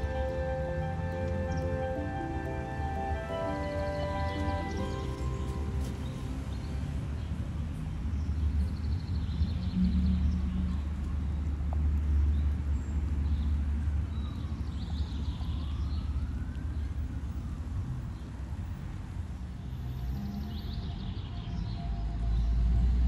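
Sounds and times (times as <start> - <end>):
distant city traffic rumble: 0.0 - 23.0.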